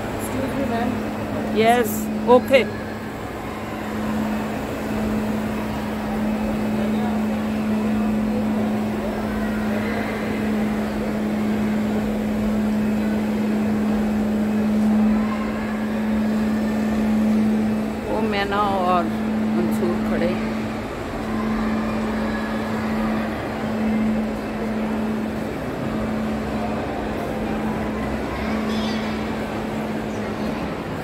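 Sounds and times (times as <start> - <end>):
murmur of distant voices: 0.0 - 31.0
steady hum: 0.0 - 31.0.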